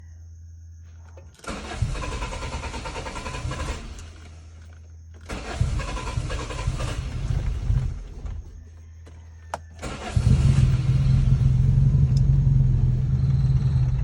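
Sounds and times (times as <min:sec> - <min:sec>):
car engine cranking: 0:00.9 - 0:14.0.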